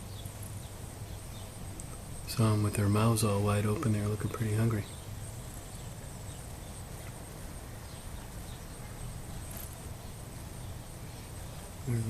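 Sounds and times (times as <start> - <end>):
birds chirping: 0.0 - 12.0
outdoor rumble and hiss: 0.0 - 12.0.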